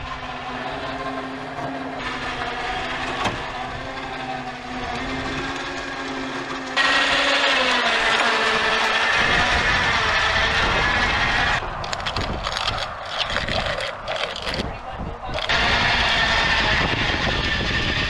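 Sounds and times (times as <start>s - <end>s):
electric winch whining: 0.0s - 14.7s, 15.3s - 18.0s.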